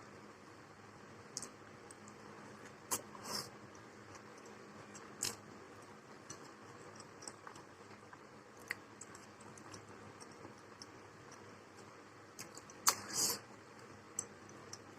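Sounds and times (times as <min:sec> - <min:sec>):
chewing: 0:01.4 - 0:13.4.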